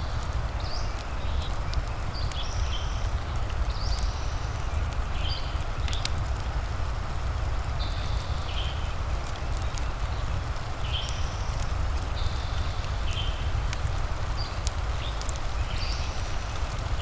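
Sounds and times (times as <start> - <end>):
fireplace crackling and popping: 0.0 - 17.0
rain hiss and rumble: 0.0 - 17.0.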